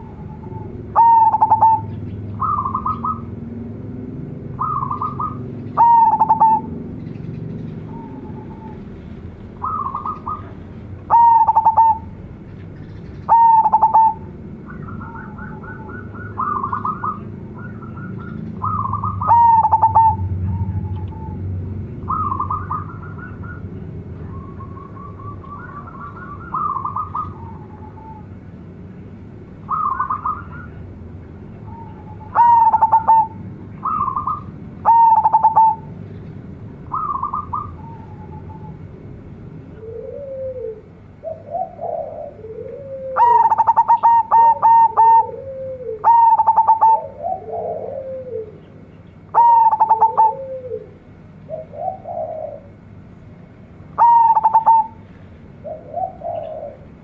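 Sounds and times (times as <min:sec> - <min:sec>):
dove cooing song: 0:00.0 - 0:28.6, 0:29.6 - 0:36.2, 0:36.8 - 0:53.0, 0:53.8 - 0:57.0.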